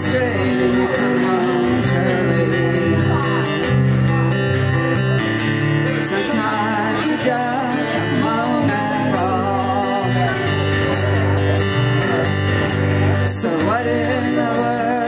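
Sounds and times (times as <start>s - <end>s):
person singing: 0.0s - 4.2s, 5.6s - 15.0s
acoustic guitar strumming: 0.0s - 15.0s
bass guitar: 0.0s - 15.0s.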